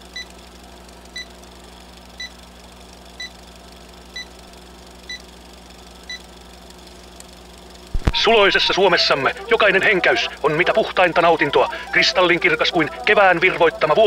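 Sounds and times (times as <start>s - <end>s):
faint hum and hiss: 0.0s - 14.0s.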